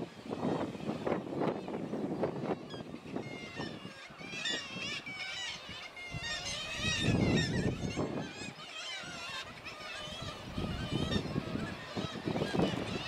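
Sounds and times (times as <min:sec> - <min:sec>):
kittiwakes calling: 0:00.4 - 0:13.0.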